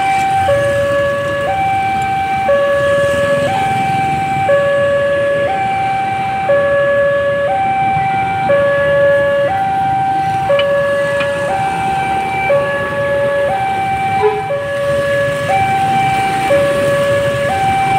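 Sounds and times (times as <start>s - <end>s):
level crossing two-tone alarm: 0.0s - 17.9s.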